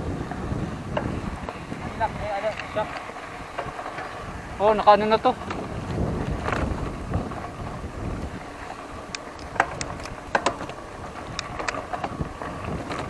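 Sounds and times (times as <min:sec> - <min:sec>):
bike rattling and clicking: 0:00.0 - 0:13.0
wind buffeting microphone: 0:00.0 - 0:13.0.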